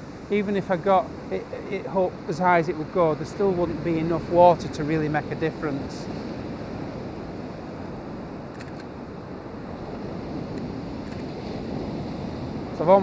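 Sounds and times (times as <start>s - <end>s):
surf washing up beach: 0.0s - 13.0s.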